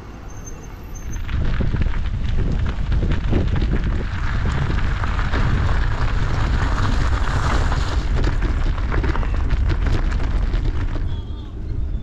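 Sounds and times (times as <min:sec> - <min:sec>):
wind rumble on microphone: 0:00.0 - 0:12.0
tyres crackling over gravel: 0:00.3 - 0:12.0.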